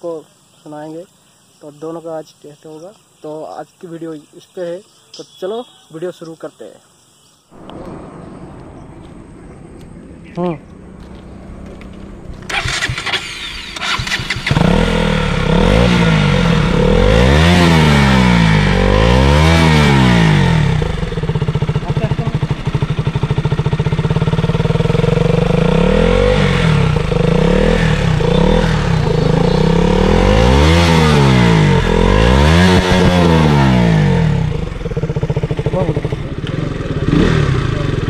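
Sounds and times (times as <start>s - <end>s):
motorcycle engine revving: 7.5s - 38.0s.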